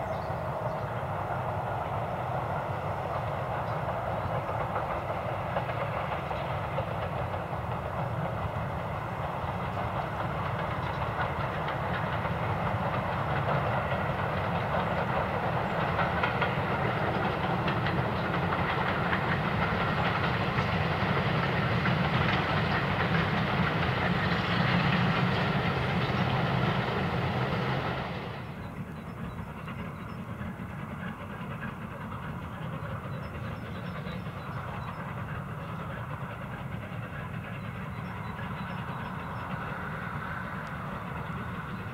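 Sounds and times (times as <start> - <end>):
distant train: 0.0 - 41.9
rolling train wheels: 0.0 - 41.9
steam train passing: 0.0 - 41.9.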